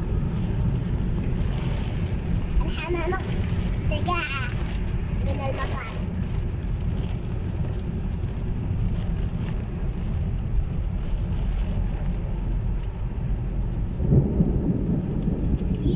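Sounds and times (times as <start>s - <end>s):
heavy rain falling: 0.0s - 15.9s
low rumble: 0.0s - 15.9s.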